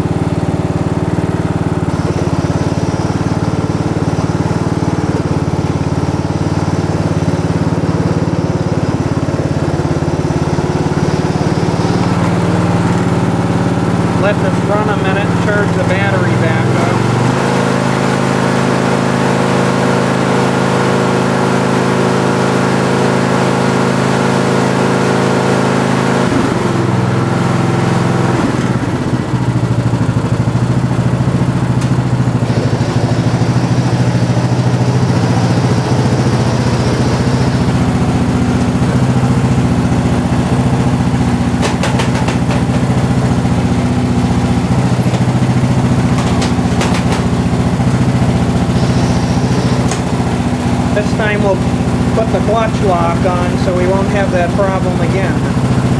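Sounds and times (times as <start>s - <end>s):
riding lawn tractor engine running: 0.0s - 55.9s.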